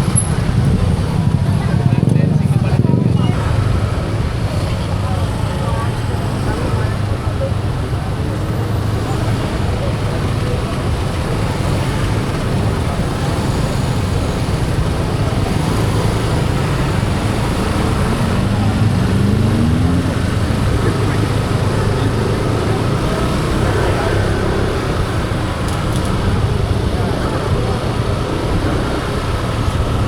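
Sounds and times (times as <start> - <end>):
road noise: 0.0 - 30.0
scooter engine drone: 0.0 - 30.0
vehicle accelerating: 0.0 - 30.0
wind: 0.0 - 30.0.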